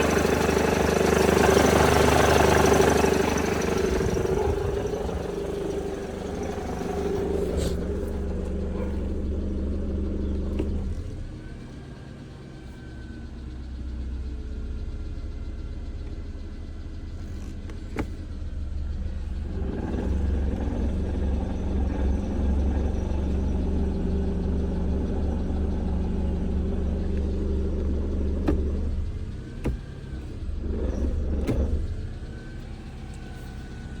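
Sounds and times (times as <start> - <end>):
car engine knocking: 0.0 - 34.0.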